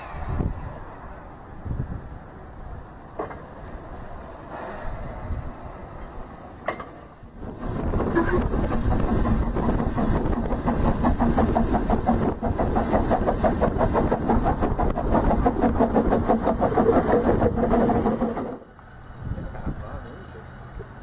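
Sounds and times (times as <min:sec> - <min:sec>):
steam hiss: 0:00.0 - 0:19.2
steam locomotive chuffing: 0:00.0 - 0:21.0.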